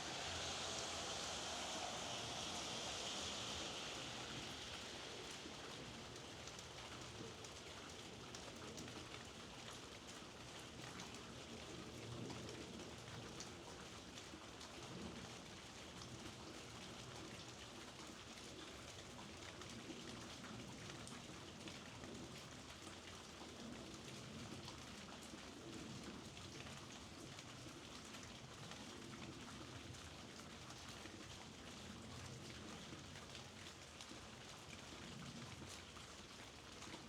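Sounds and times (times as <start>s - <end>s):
soft rain pattering: 0.0s - 37.0s
faint ticks of raindrops: 0.1s - 37.0s.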